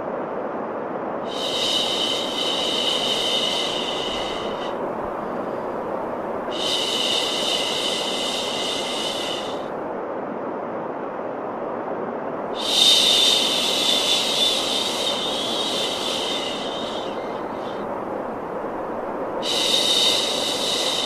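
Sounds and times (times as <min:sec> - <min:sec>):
white noise hiss: 0:00.0 - 0:21.0
brighter hiss with high whine: 0:01.0 - 0:10.2, 0:11.9 - 0:21.0.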